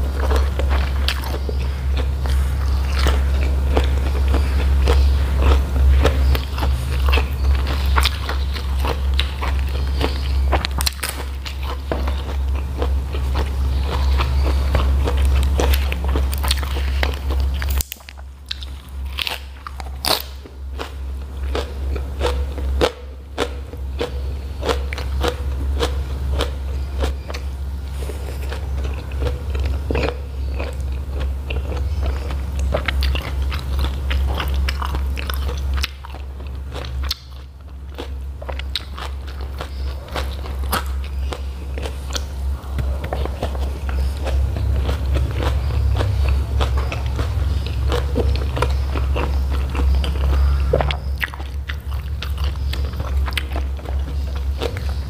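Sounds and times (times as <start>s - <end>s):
chewing and crunching vegetable: 0.0s - 55.0s
steady low hum: 0.0s - 55.0s.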